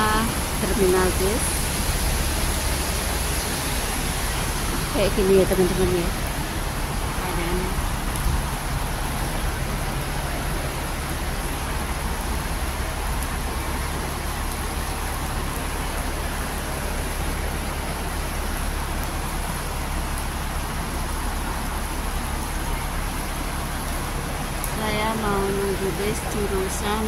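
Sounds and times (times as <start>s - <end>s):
low rumble of buses: 0.0s - 27.0s
rain on wet pavement: 0.0s - 27.0s.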